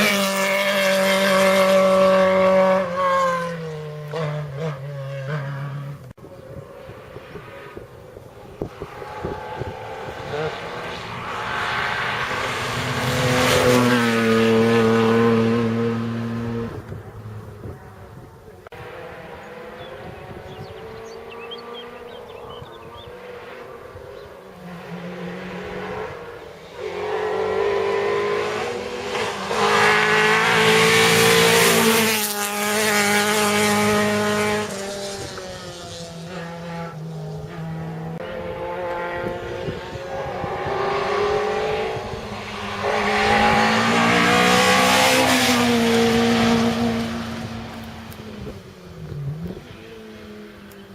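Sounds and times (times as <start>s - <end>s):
rally car engine passing: 0.0s - 50.9s.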